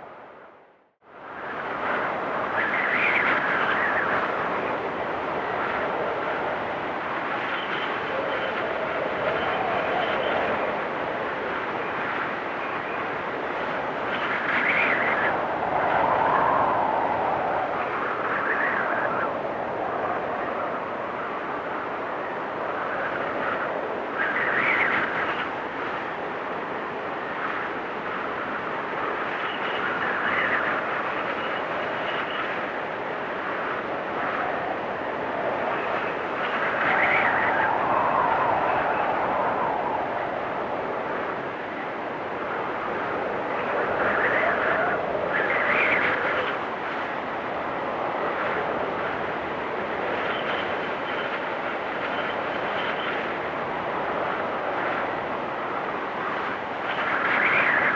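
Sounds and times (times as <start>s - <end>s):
blizzard wind rushing: 0.0s - 57.9s.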